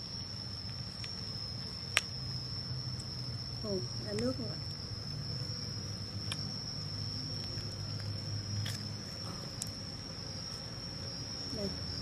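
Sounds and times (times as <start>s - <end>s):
high-pitched insect trill: 0.0s - 12.0s
low steady hum: 0.0s - 12.0s.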